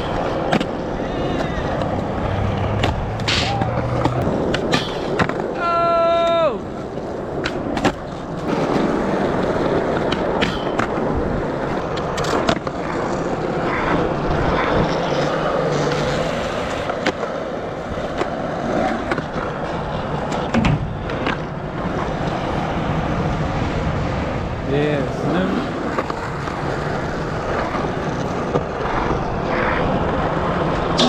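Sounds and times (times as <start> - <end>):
skateboard clacks: 0.0 - 24.3, 25.2 - 31.0
skateboard wheels rolling: 0.0 - 31.0.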